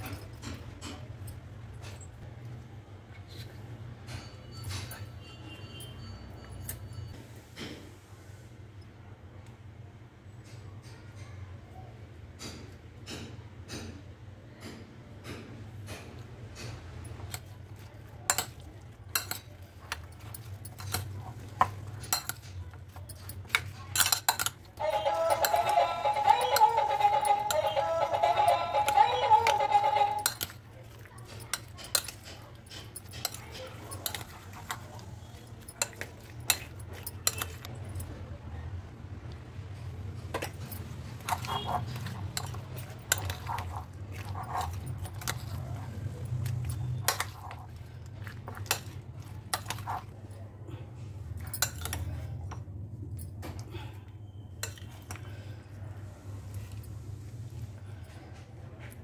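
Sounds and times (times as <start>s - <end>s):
utensils clinking against dishes: 0.0s - 2.4s, 3.3s - 7.2s, 12.4s - 38.3s, 39.8s - 55.6s.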